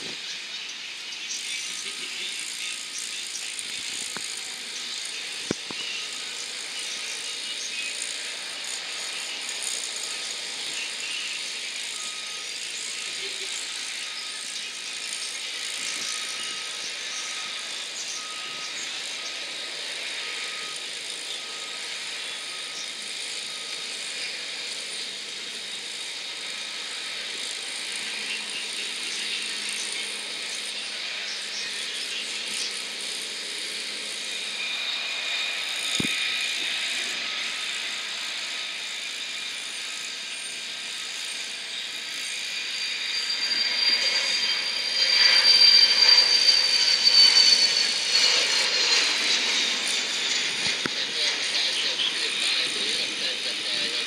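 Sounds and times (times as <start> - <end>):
high jet whine falling in pitch: 0.0 - 54.0
jet engine hiss: 0.0 - 54.0.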